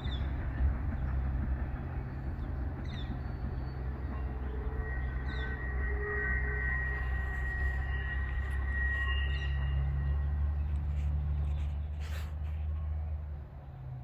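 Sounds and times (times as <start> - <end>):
freight train rumbling: 0.0 - 14.0
thin high whine: 1.6 - 12.9.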